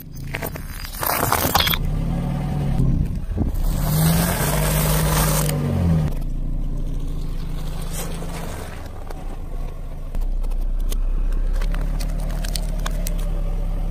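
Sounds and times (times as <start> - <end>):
car engine rumbling: 0.0 - 13.9.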